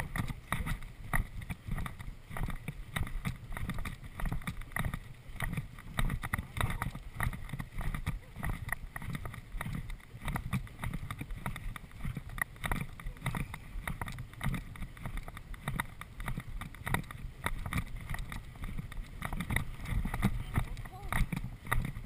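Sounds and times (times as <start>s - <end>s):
horse hoofbeats on grass: 0.0s - 22.0s
horse tack rattling: 0.0s - 22.0s
wind on microphone: 0.0s - 22.0s.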